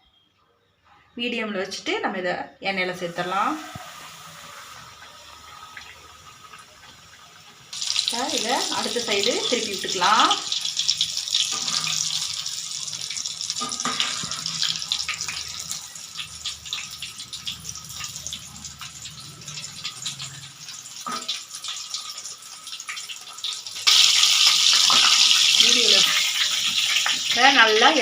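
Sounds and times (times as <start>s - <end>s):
chicken deep-frying in oil: 3.0s - 28.0s.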